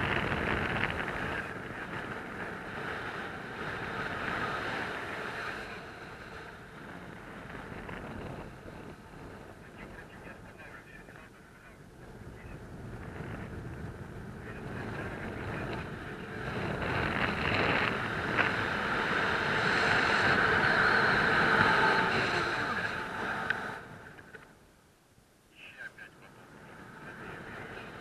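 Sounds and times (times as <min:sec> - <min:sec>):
wind rushing over microphone: 0:00.0 - 0:24.4.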